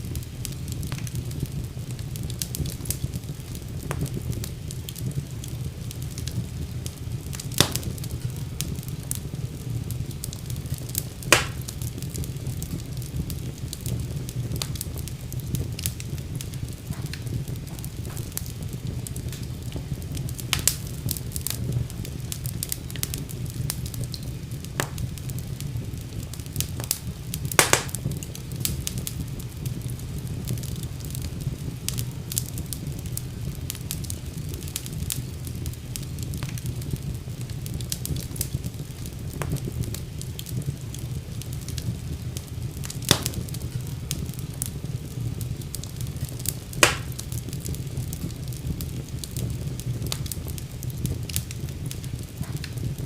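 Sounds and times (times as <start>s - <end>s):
fire crackling and popping: 0.0s - 53.0s
fire flames rumbling: 0.0s - 53.0s.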